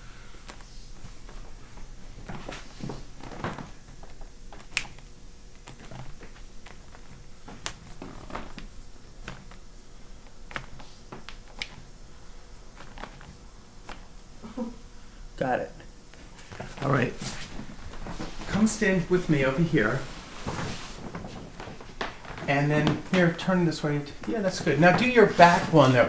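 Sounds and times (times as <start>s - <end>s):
soft rustling and shuffling: 0.0s - 15.3s, 15.9s - 26.0s.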